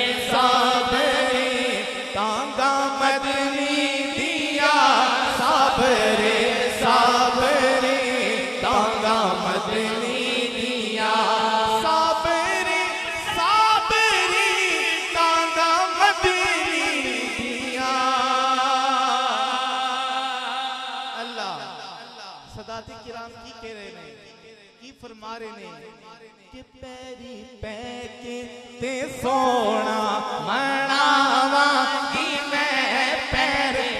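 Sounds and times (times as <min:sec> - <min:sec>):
man singing into a microphone: 0:00.0 - 0:33.9.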